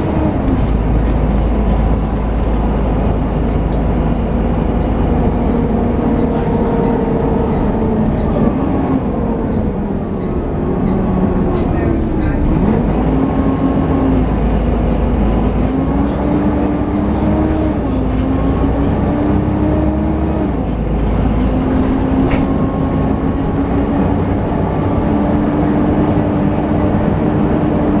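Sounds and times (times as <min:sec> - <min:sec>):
bus engine whining drone: 0:00.0 - 0:28.0.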